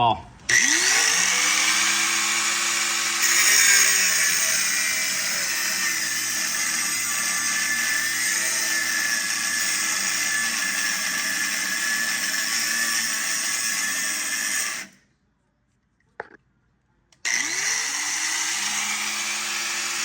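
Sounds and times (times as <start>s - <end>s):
abrasive disc cutting metal: 0.5s - 15.0s, 17.3s - 20.0s.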